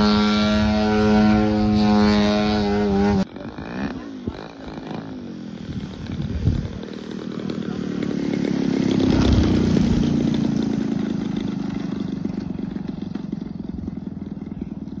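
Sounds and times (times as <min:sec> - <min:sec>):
model plane engine: 0:00.0 - 0:15.0.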